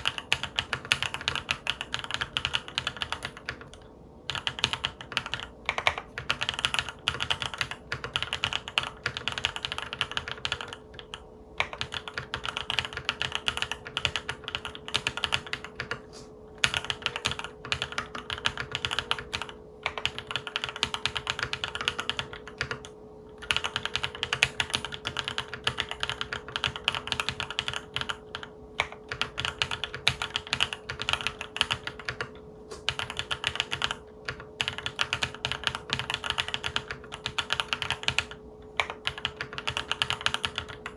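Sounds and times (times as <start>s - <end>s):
mechanical keyboard typing: 0.0s - 16.0s, 16.6s - 40.9s
faint steady hum: 0.0s - 40.9s.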